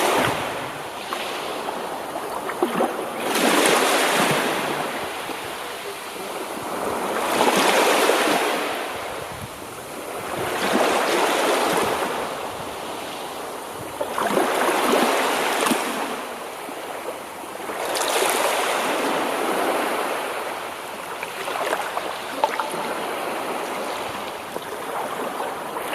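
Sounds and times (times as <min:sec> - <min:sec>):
ocean waves breaking: 0:00.0 - 0:25.9.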